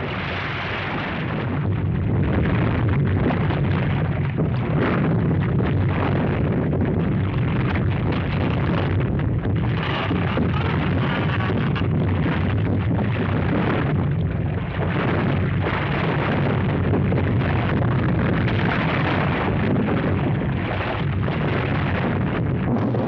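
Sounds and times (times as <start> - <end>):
deep rumble of ground shaking: 0.0 - 23.0
rough crackling noise: 0.0 - 23.0.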